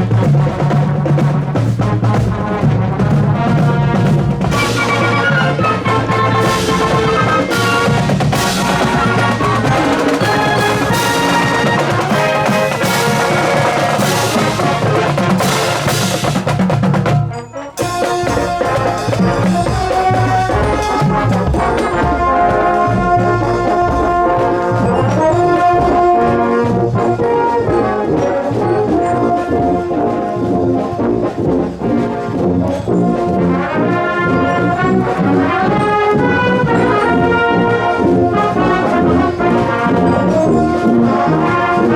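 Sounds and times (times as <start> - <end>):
marching wind band playing: 0.0 - 41.9.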